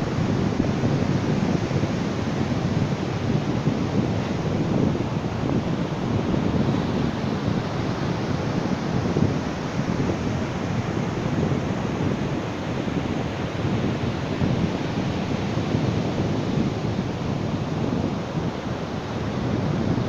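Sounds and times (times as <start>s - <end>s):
ocean surf on beach: 0.0s - 20.0s.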